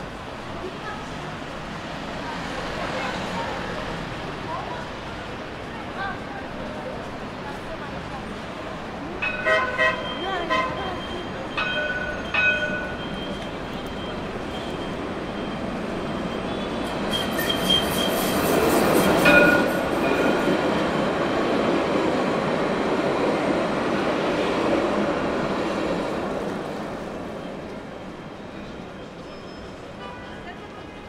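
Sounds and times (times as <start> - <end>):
tram passing: 0.0 - 31.0.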